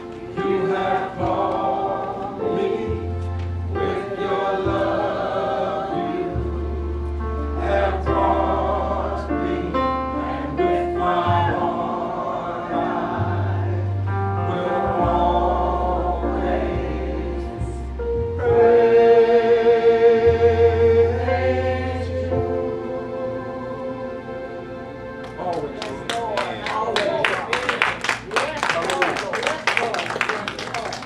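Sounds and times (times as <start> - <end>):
voices singing gospel: 0.0 - 26.1
long held bass notes: 0.4 - 25.8.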